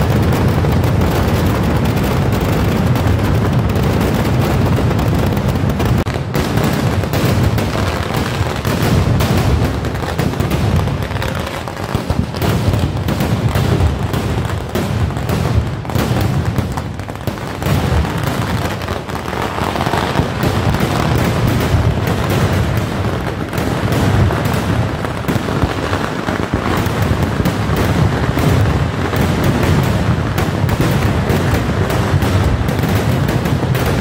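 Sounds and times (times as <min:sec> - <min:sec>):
fireworks bangs and booms: 0:00.0 - 0:34.0.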